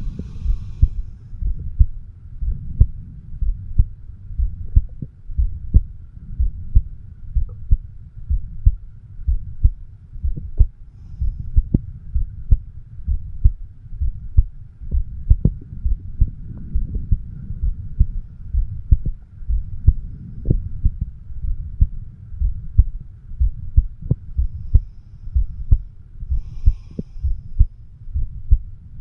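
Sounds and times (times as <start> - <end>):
heartbeat through stethoscope: 0.0 - 29.0
low steady hum: 0.0 - 29.0.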